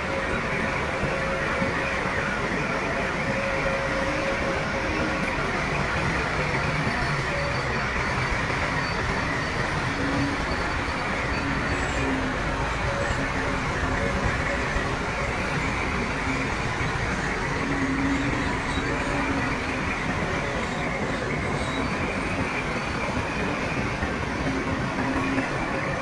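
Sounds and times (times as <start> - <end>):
continuous rattle: 0.0 - 26.0
diesel machinery engine drone: 0.0 - 26.0.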